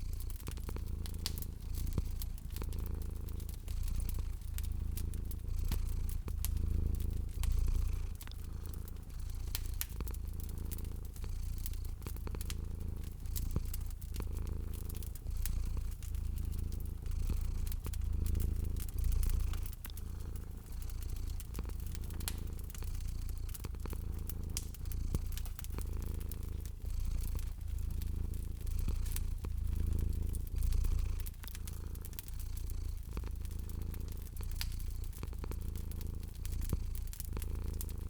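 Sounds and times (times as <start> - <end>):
cat purring: 0.0 - 38.0
wood fire crackling: 0.0 - 38.0.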